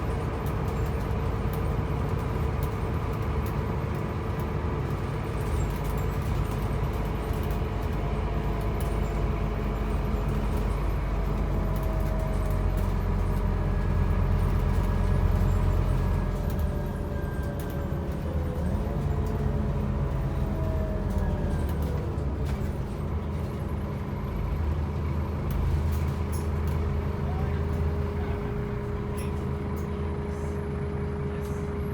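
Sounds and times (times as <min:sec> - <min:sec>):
bus diesel engine under load: 0:00.0 - 0:31.9.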